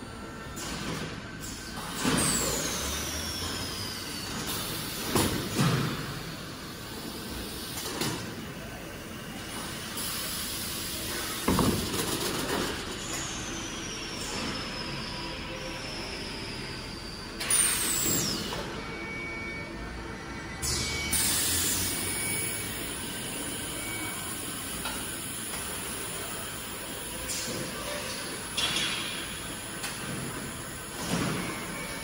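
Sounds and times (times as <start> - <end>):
factory machinery running: 0.0 - 32.0.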